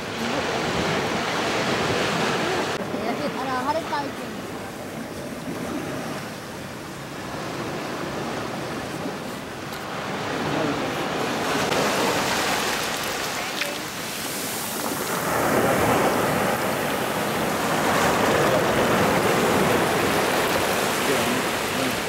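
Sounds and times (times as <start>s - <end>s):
sea surf breaking: 0.0s - 22.0s.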